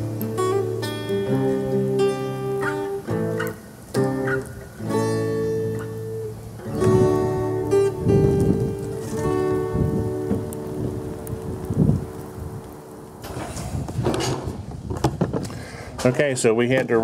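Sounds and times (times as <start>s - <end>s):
acoustic guitar music: 0.0s - 15.6s.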